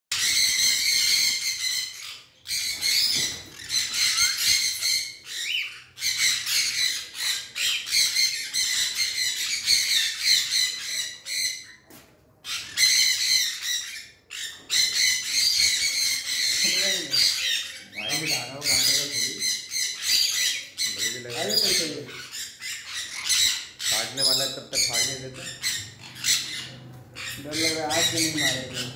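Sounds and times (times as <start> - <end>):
macaw squawking: 0.1 - 11.8, 12.5 - 28.9.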